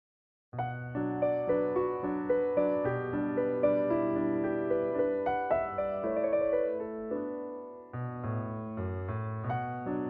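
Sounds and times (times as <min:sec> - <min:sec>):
slow piano music: 0:00.6 - 0:10.0.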